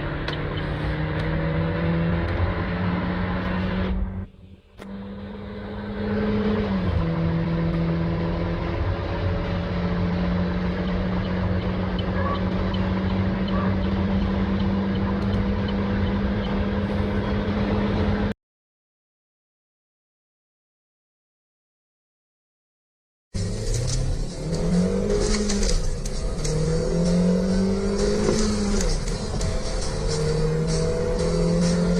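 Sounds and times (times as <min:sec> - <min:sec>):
car engine accelerating: 0:00.0 - 0:18.4, 0:23.4 - 0:31.9
heavy road noise: 0:00.0 - 0:18.4, 0:23.4 - 0:31.9.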